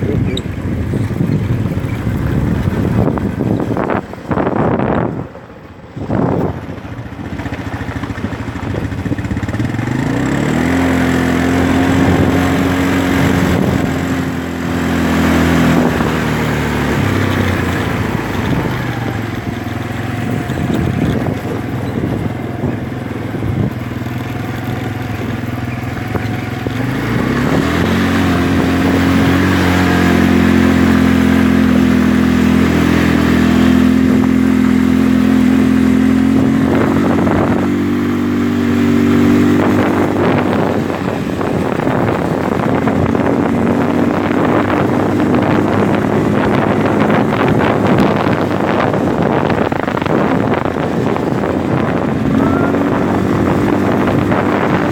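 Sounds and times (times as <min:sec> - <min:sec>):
quad bike engine running: 0:00.0 - 0:54.9.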